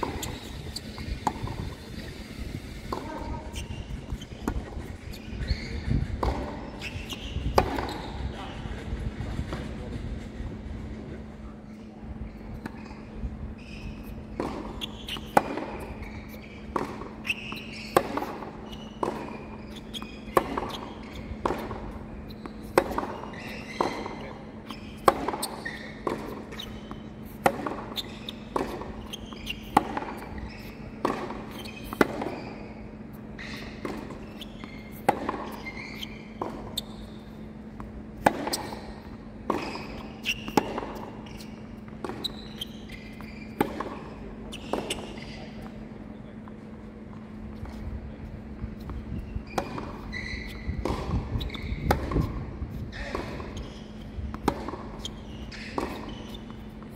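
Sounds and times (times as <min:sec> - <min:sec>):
racquets striking tennis ball: 0:00.0 - 0:02.2, 0:02.8 - 0:05.5, 0:06.1 - 0:08.1, 0:13.9 - 0:45.8, 0:47.5 - 0:56.9
tennis ball bouncing: 0:00.0 - 0:02.2, 0:02.8 - 0:05.6, 0:06.2 - 0:08.1, 0:13.9 - 0:45.8, 0:46.4 - 0:56.9
steady low hum: 0:00.0 - 0:56.9.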